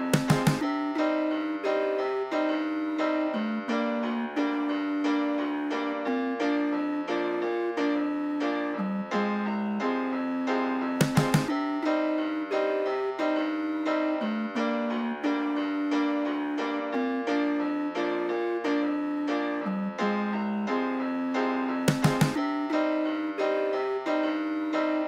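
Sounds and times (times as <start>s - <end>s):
keyboard melody: 0.0s - 25.0s.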